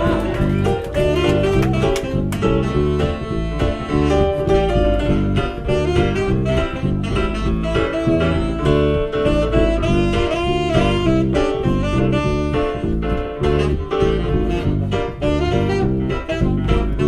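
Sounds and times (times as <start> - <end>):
live jazz band playing: 0.0 - 17.0
saxophone melody: 0.0 - 17.0.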